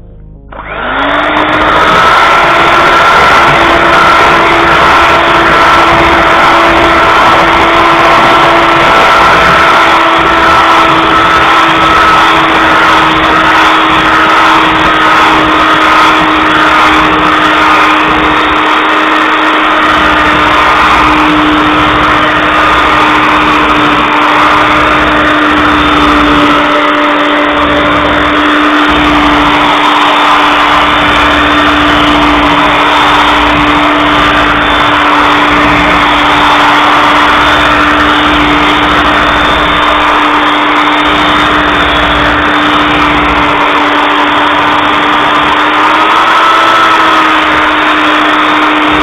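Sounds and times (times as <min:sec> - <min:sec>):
electric hand mixer whirring: 0:00.0 - 0:49.0.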